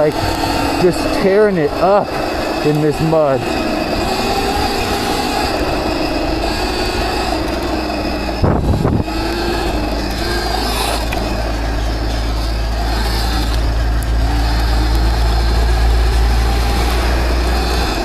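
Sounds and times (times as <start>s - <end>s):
electric motorbike motor whining: 0.0s - 18.0s.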